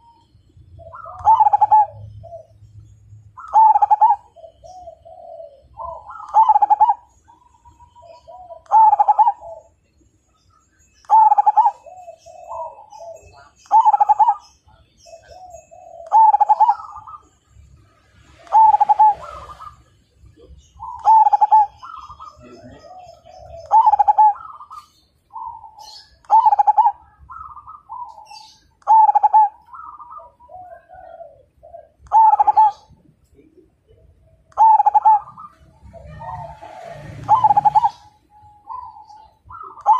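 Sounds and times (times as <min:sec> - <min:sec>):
dove cooing: 0:00.0 - 0:09.8, 0:11.0 - 0:17.4, 0:18.3 - 0:39.9
softer coos from other doves: 0:00.8 - 0:02.5, 0:03.4 - 0:07.1, 0:07.7 - 0:09.7, 0:11.1 - 0:17.3, 0:18.3 - 0:19.9, 0:20.8 - 0:33.0, 0:34.6 - 0:39.9.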